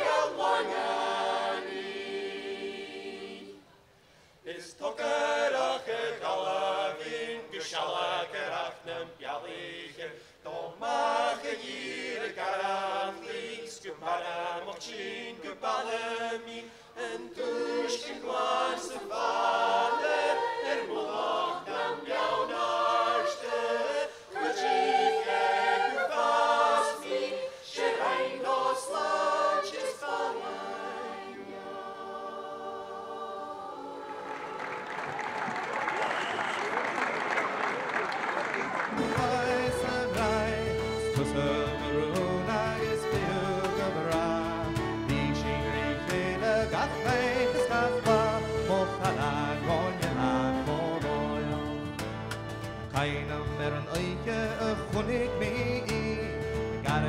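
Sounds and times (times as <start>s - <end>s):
mixed choir singing unaccompanied: 0.0s - 3.8s, 4.5s - 35.1s, 38.9s - 52.1s.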